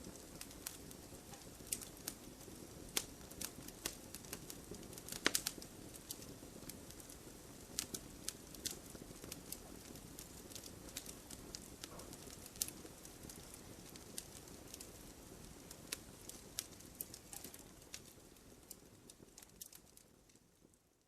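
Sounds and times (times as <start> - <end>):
low rush of flame: 0.0 - 20.8
firewood crackling and popping: 0.0 - 21.0.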